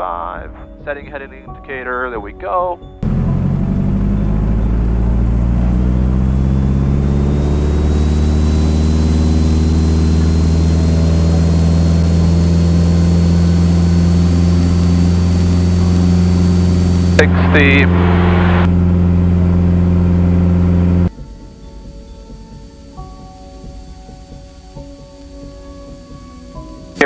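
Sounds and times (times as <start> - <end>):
airplane engine drone: 3.0 - 27.0
faint high whine: 3.1 - 27.0.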